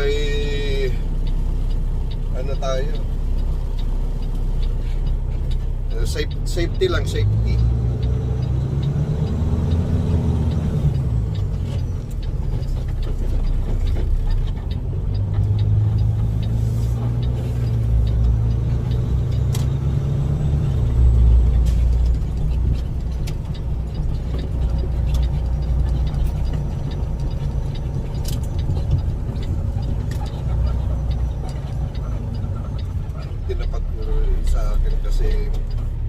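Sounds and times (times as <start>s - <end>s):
truck engine rumbling: 0.0s - 36.0s.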